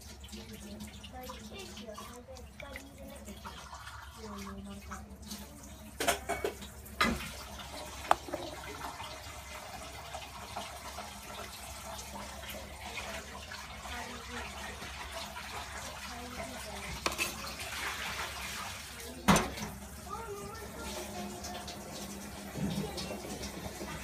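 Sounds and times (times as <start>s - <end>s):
beans and water sloshing: 0.0s - 19.3s.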